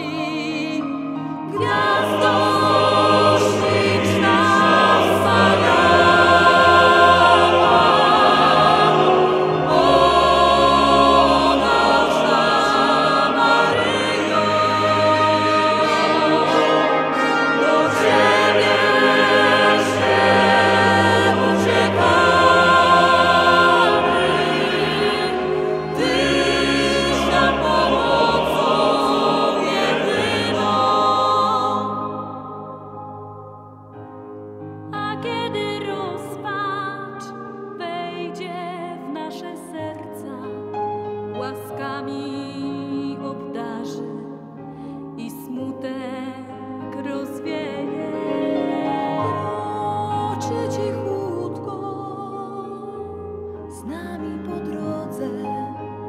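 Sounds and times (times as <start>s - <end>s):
choir singing with orchestra: 0.0s - 34.0s, 34.6s - 56.0s.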